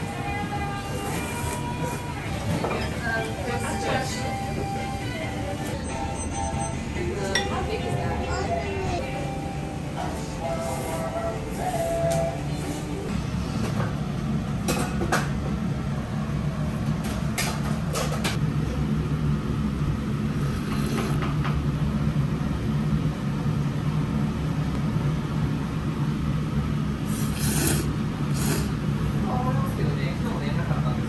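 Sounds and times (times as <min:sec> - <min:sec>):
low kitchen rumble: 0:00.0 - 0:31.0.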